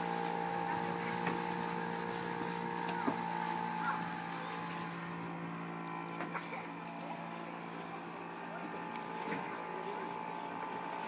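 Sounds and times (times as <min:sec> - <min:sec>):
model boat engine running: 0:00.0 - 0:11.0.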